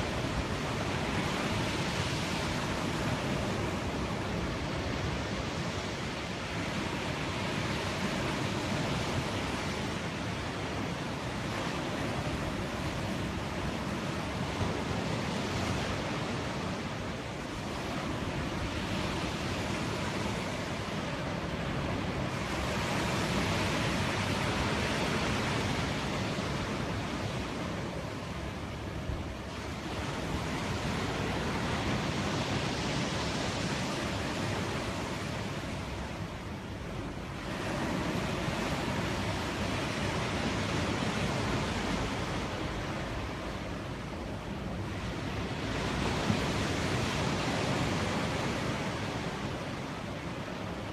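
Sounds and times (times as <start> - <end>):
sea surf breaking: 0.0 - 50.9.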